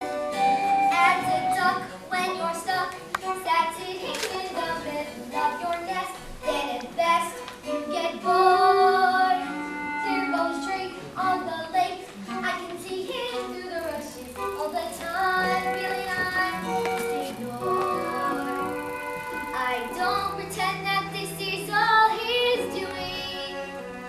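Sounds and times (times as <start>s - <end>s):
instrumental accompaniment: 0.0s - 24.0s
children singing: 0.3s - 24.0s.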